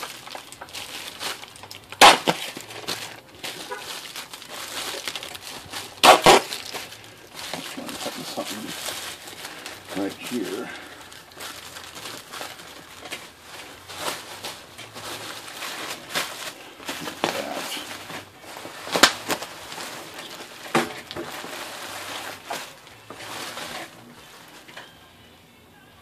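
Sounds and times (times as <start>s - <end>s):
bubble wrap snap: 0.0s - 25.0s
bubble wrap crinkling: 0.0s - 25.3s.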